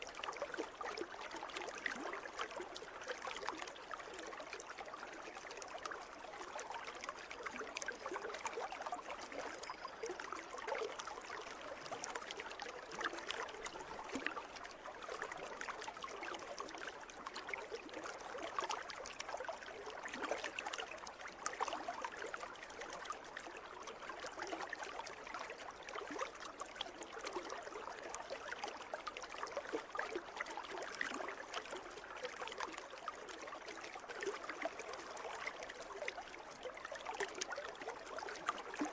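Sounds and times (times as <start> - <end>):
pool water trickling: 0.0 - 38.9.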